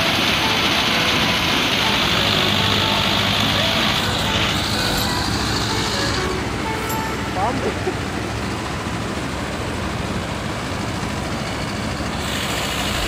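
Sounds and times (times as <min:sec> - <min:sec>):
combine harvester engine drone: 0:00.0 - 0:13.0
loud even hiss: 0:00.0 - 0:13.0.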